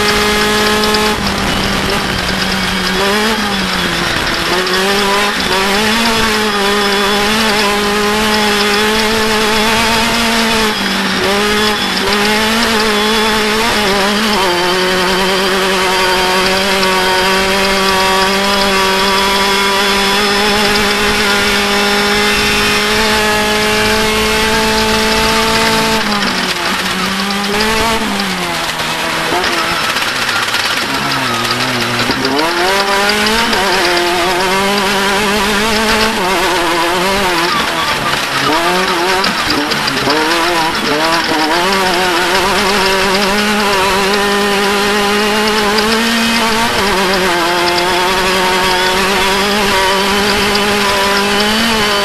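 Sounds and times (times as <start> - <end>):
race vehicle engine revving high: 0.0 - 52.0.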